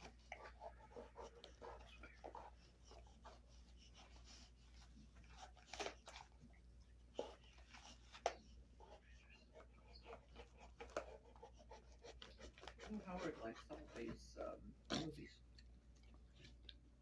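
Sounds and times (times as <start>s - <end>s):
dog gnawing on a chew: 0.0s - 16.8s.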